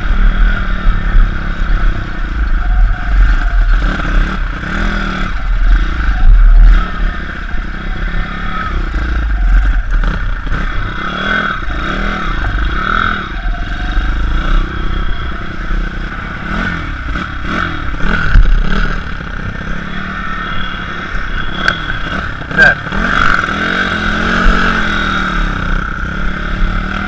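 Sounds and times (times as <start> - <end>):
pit bike engine revving: 0.0 - 27.0.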